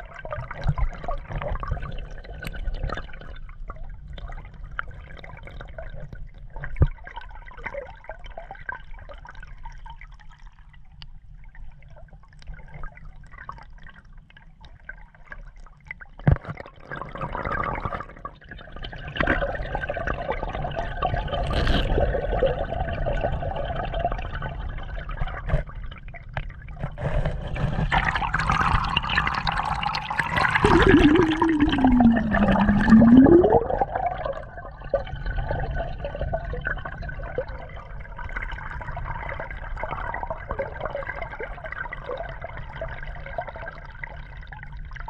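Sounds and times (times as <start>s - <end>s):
water sloshing and gurgling: 0.0s - 45.0s.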